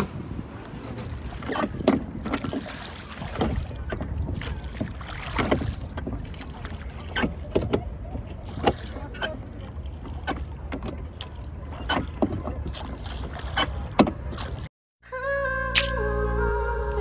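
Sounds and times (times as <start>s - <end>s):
oars splashing and knocking: 0.6s - 14.7s.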